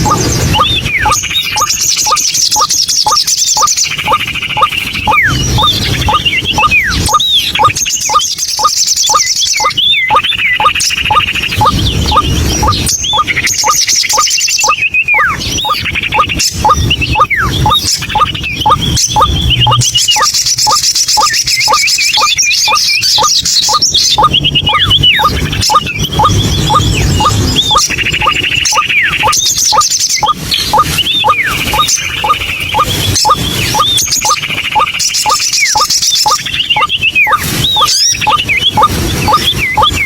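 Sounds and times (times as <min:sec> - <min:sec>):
waterhen calling: 0:00.0 - 0:40.0.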